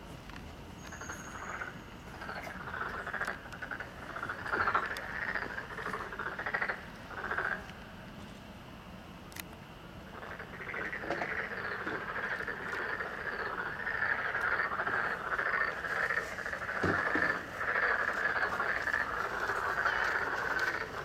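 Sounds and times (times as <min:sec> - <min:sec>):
frogs croaking: 0:00.8 - 0:08.1, 0:09.3 - 0:21.0.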